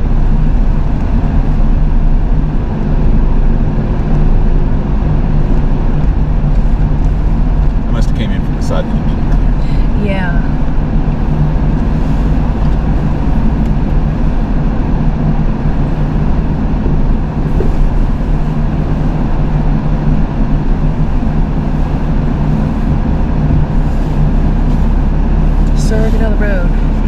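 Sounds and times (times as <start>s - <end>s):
truck engine droning: 0.0s - 27.0s.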